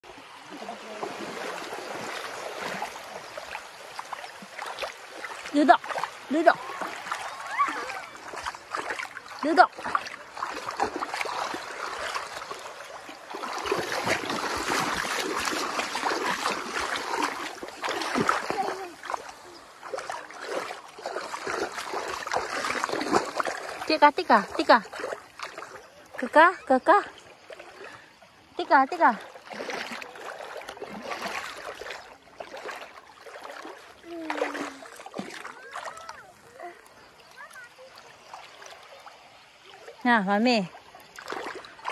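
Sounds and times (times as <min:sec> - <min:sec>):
feet wading through water: 0:00.0 - 0:41.9.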